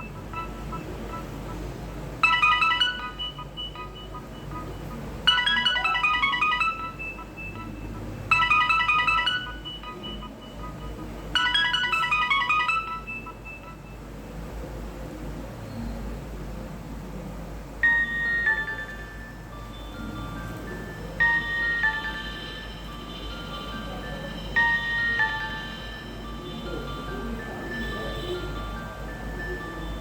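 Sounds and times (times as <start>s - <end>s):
phone ringtone melody: 0.0s - 14.4s, 17.8s - 30.0s.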